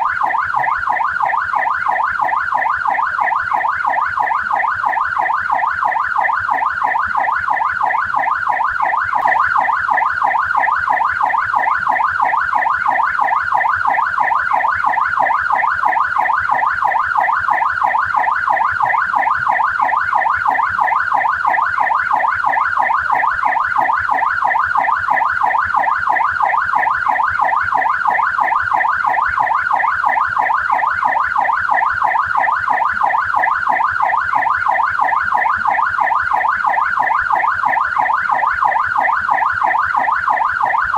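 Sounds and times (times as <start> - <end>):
police siren yelping: 0.0 - 40.9.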